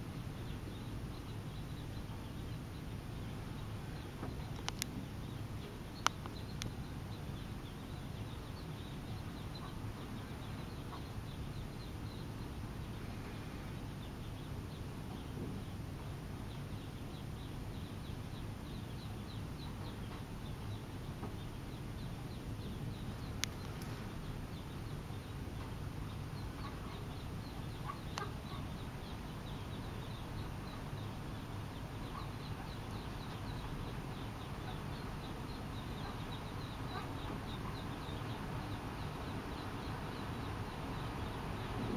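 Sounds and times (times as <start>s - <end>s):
ducklings peeping: 0.1s - 41.9s.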